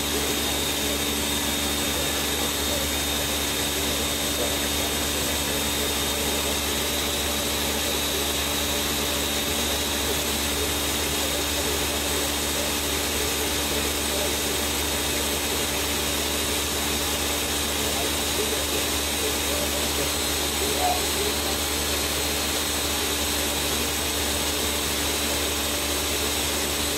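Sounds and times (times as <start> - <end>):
blender motor running: 0.0 - 26.9.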